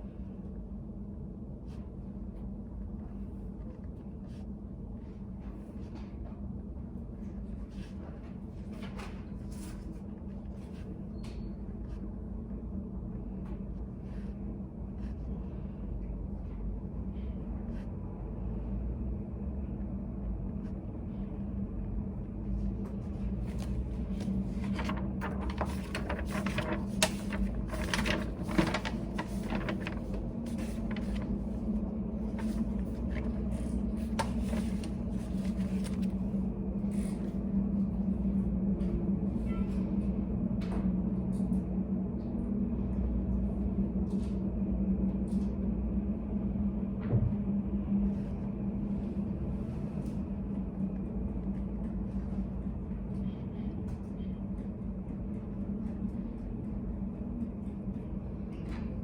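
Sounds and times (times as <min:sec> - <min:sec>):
steady low room hum: 0:00.0 - 0:59.0.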